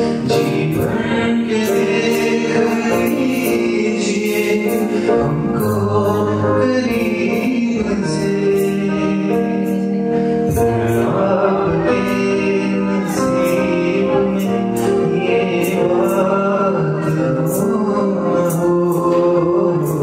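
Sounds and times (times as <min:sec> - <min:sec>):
live acoustic band with singing: 0:00.0 - 0:20.0.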